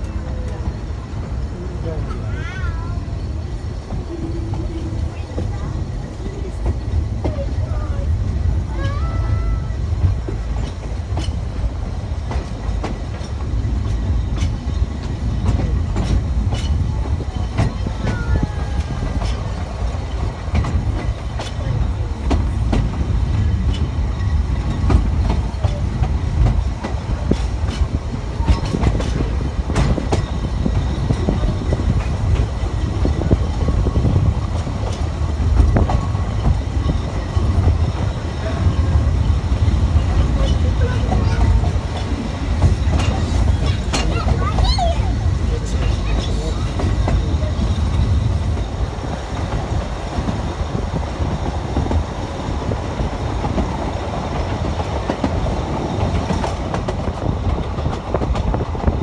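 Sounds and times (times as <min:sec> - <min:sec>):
train wheels rumbling: 0:00.0 - 0:59.0
wheels clicking over rail joints: 0:01.9 - 0:59.0.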